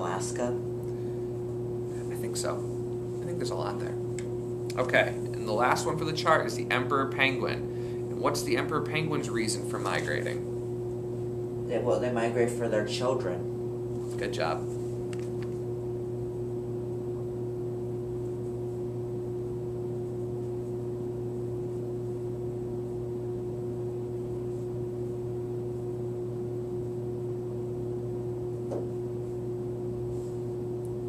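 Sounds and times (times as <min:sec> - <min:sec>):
machine hum with held tone: 0:00.0 - 0:31.0.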